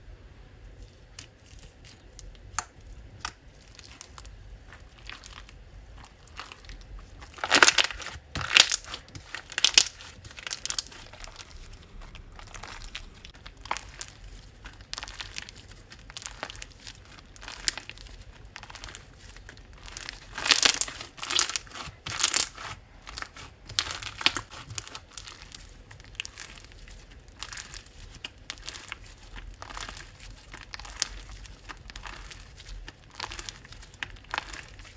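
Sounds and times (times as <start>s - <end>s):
slime squeezed crackling and popping: 1.0s - 34.9s.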